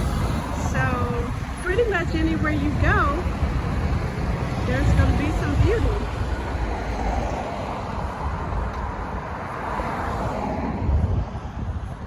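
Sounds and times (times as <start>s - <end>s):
low traffic rumble: 0.0s - 12.0s
vehicle passing: 0.0s - 12.0s.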